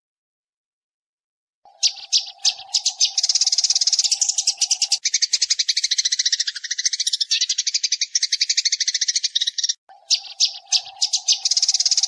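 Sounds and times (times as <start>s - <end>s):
sparrows chattering: 1.7s - 12.0s.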